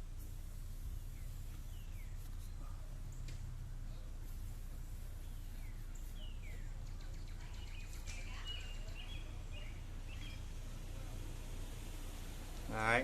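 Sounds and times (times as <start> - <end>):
small birds chirping: 0.0 - 12.9
low background hum: 0.0 - 13.0.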